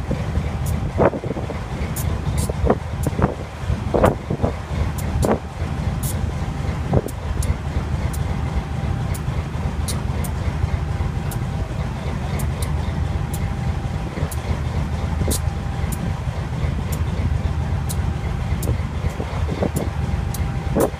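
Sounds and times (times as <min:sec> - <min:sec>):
diesel locomotive engine rumbling: 0:00.0 - 0:20.9.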